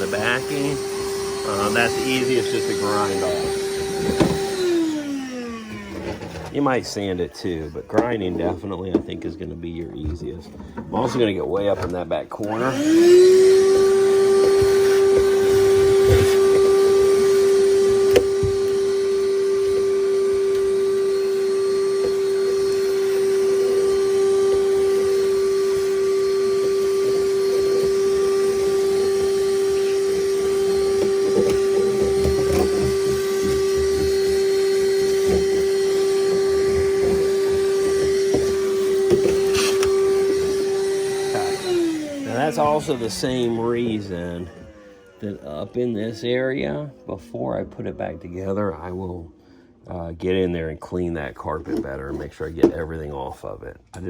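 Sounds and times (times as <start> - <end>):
vacuum cleaner running: 0.0 - 50.3.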